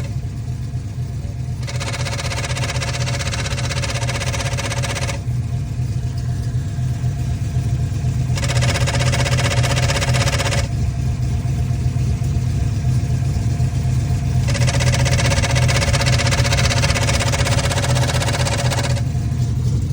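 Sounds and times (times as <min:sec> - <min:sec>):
car engine idling: 0:00.0 - 0:19.9
rattling shudder from clutch: 0:00.0 - 0:19.9.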